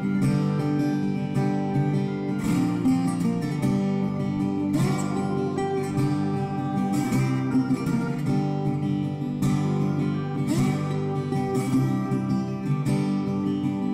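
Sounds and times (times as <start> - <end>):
acoustic guitar background music: 0.0 - 13.9.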